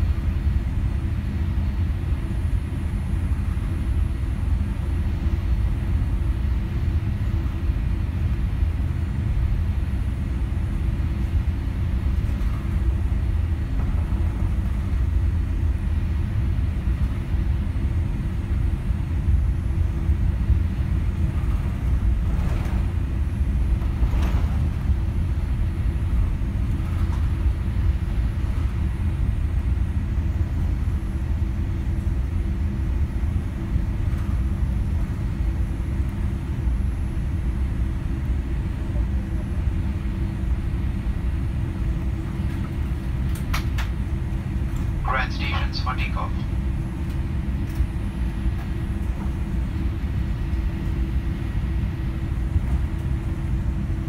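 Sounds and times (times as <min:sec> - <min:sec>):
aircraft engines rumbling while taxiing: 0:00.0 - 0:54.0
steady hum: 0:00.0 - 0:54.0.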